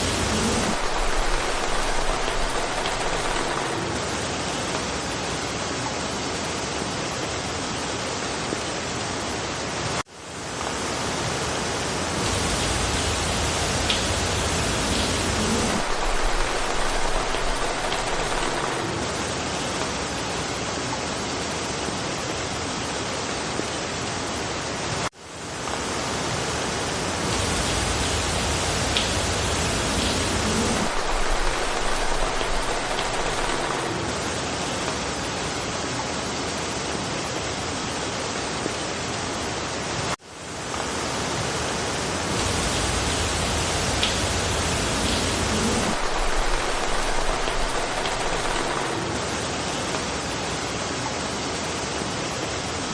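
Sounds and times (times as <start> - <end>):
rain falling in a forest: 0.0 - 52.9.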